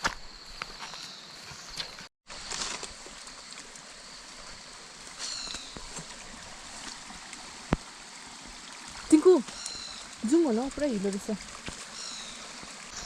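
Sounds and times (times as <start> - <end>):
trickling water: 2.3 - 13.0.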